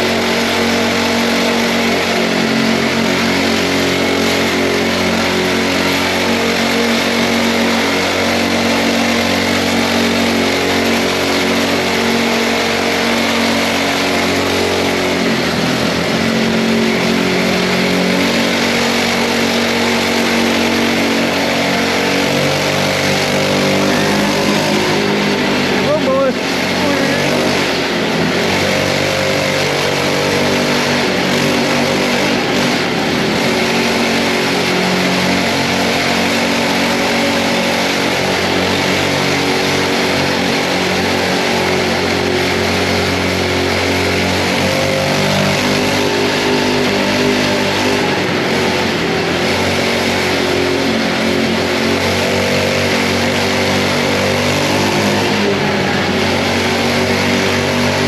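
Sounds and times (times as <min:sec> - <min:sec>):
small bike engine running: 0:00.0 - 0:58.0.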